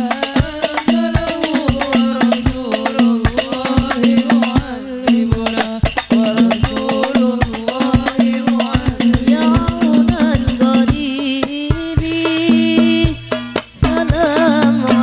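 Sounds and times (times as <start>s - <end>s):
frame drums and jingles: 0.0s - 15.0s.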